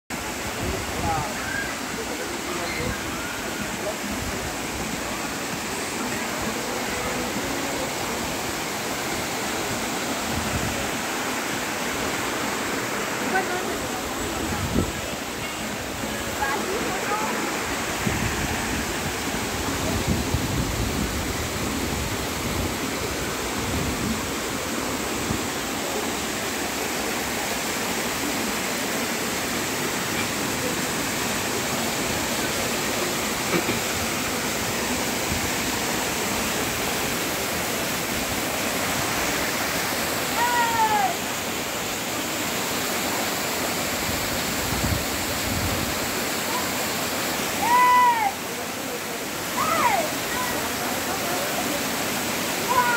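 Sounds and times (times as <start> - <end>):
waterfall and stream rushing: 0.1 - 52.9.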